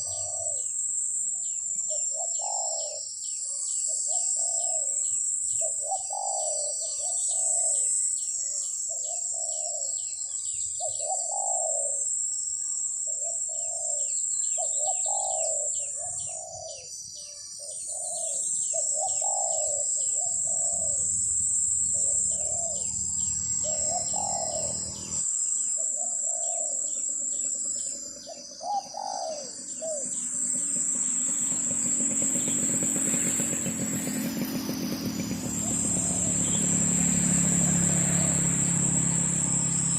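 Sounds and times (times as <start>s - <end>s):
doves cooing: 0.0s - 39.9s
high insect drone: 0.0s - 39.9s.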